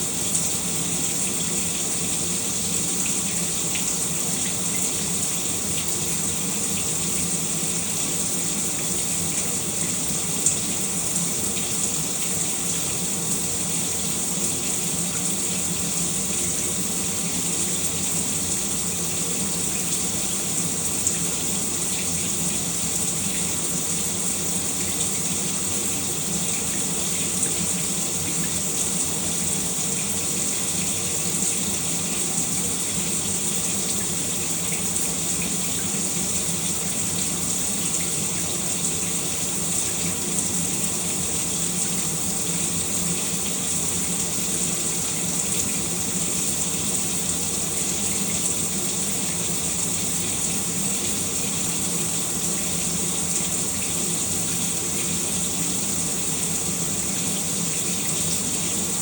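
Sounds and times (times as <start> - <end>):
faint splashes and drips: 0.0 - 59.0
shower water running: 0.0 - 59.0.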